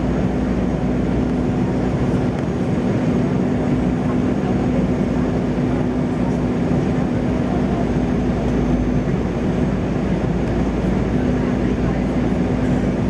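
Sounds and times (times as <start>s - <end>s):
jet engines: 0.0s - 13.0s
steady low hum: 0.0s - 13.0s.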